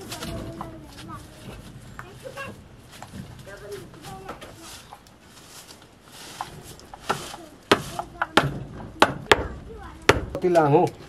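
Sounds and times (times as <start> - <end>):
wooden sticks knocking: 0.0 - 11.0.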